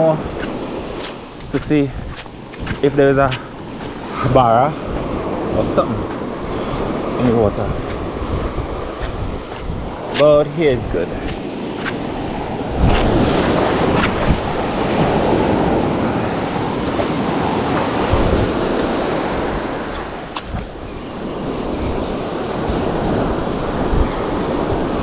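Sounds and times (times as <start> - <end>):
surf washing on sand: 0.0 - 25.0
wind buffeting microphone: 0.0 - 25.0.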